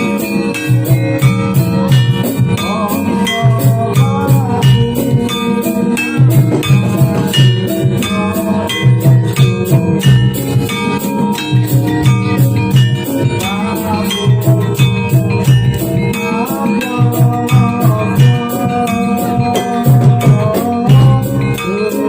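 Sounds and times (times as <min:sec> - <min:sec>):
fast high percussive beat: 0:00.0 - 0:22.0
gamelan ensemble music: 0:00.0 - 0:22.0
repeating drum pattern: 0:00.0 - 0:22.0.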